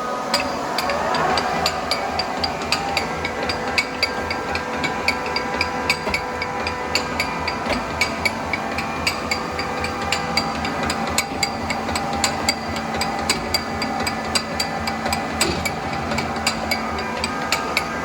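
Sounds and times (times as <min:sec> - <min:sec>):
lathe humming and whining: 0:00.0 - 0:18.0
sharp metallic ticking: 0:00.3 - 0:18.0.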